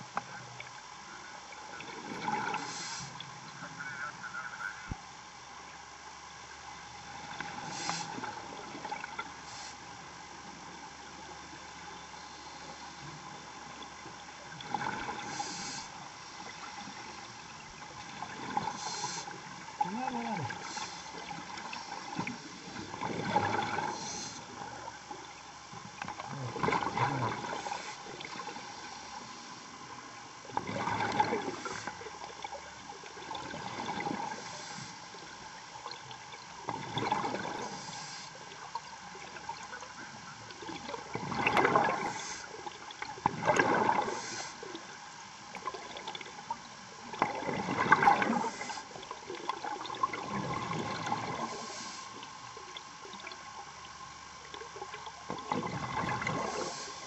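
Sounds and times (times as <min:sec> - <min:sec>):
exhaled air bubbling underwater: 0:00.0 - 0:04.0, 0:05.3 - 0:57.0
steady hiss: 0:00.0 - 0:36.7, 0:37.5 - 0:41.0, 0:41.9 - 0:43.2, 0:44.0 - 0:45.5, 0:48.2 - 0:49.5, 0:51.1 - 0:55.3, 0:56.2 - 0:57.0.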